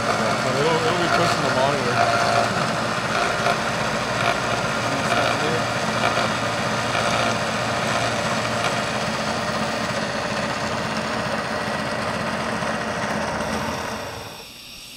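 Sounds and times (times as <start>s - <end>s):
milling machine cutting metal: 0.0s - 14.9s.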